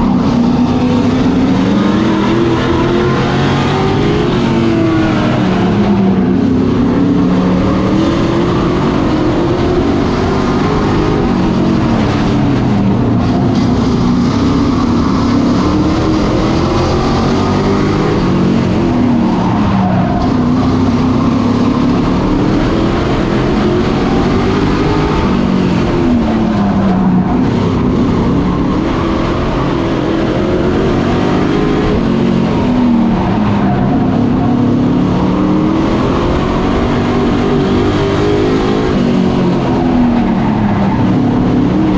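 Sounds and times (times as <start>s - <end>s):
race truck engines racing: 0.0s - 41.9s.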